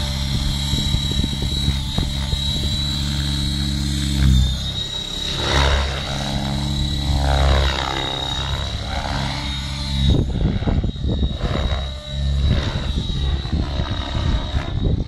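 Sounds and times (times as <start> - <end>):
high motor whine: 0.0 - 15.0
model helicopter rotor whirring: 0.0 - 15.0.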